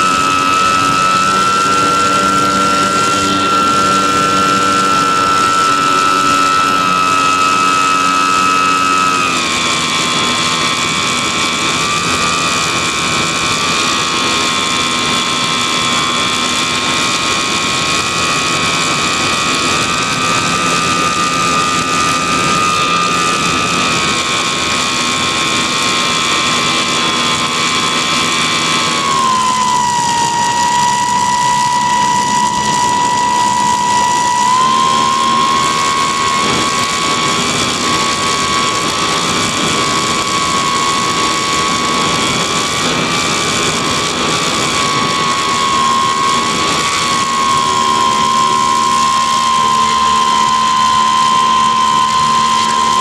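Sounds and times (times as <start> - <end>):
electric motor whine: 0.0 - 53.0.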